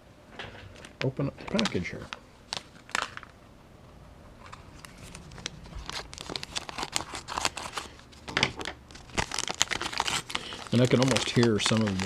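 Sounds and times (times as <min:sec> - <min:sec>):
package crinkling and rustling: 0:00.7 - 0:03.4, 0:04.4 - 0:12.0.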